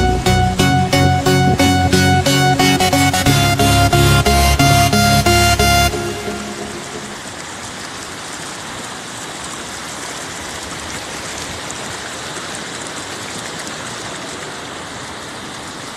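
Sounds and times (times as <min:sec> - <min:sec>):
stream rushing over rocks: 0:01.2 - 0:15.9.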